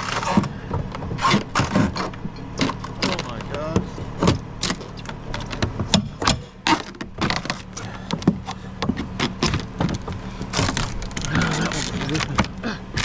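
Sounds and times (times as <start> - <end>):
sharp knocks: 0.0 - 10.9
wood cracking: 0.0 - 13.0.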